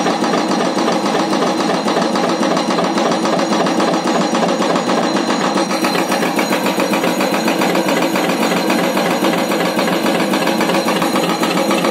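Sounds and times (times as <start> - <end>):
hydraulic breaker hammering rock: 0.0 - 11.9.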